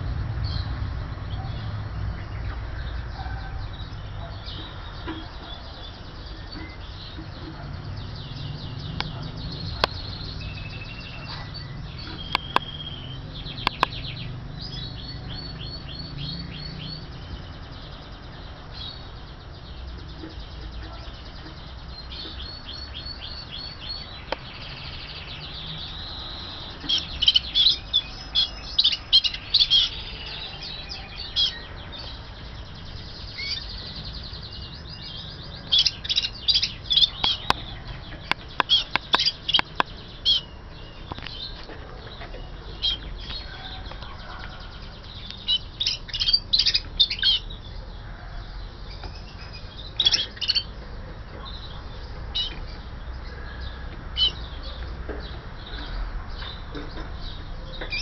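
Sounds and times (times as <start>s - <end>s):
canary chirps and trills: 0.0s - 58.0s.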